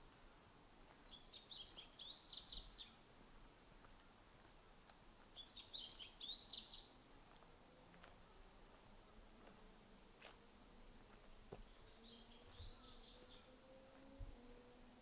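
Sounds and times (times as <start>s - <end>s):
faint background hiss: 0.0s - 15.0s
songbird chirping: 0.2s - 15.0s.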